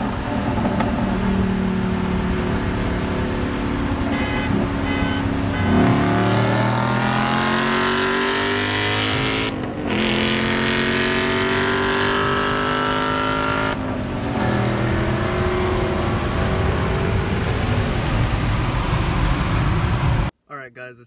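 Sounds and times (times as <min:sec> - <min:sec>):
car engine at full throttle: 0:00.0 - 0:18.6.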